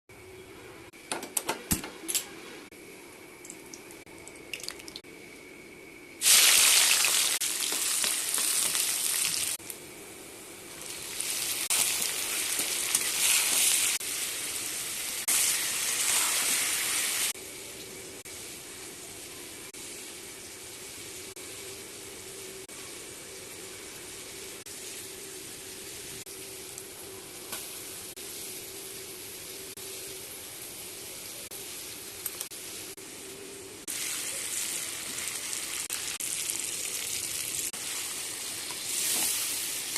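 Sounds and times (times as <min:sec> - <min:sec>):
chicken sizzling in hot oil: 0:06.2 - 0:09.8, 0:10.7 - 0:39.9.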